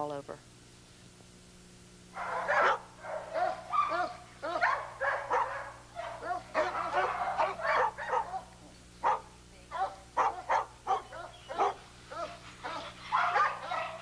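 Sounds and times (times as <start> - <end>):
dog barking: 2.2 - 14.0.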